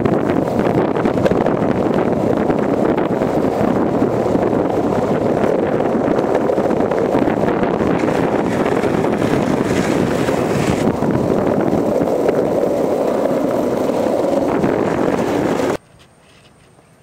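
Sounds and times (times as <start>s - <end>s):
wind on microphone: 0.0s - 15.8s
skateboard wheels rolling on pavement: 0.0s - 17.0s.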